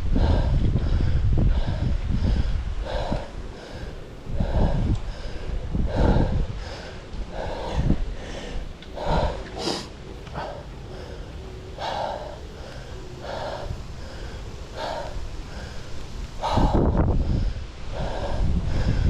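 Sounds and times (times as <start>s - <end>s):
heavy breathing: 0.0s - 19.0s
wind rumble on microphone: 0.0s - 19.0s.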